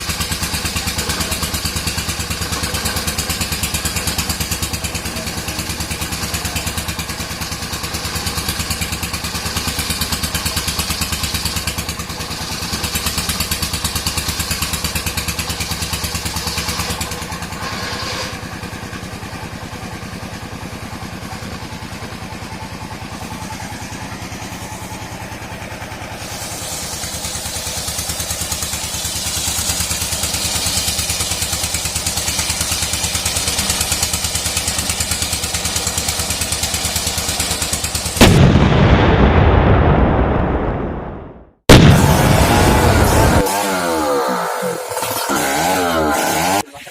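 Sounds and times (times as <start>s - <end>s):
sawmill engine running: 0.0s - 40.4s, 41.7s - 46.9s.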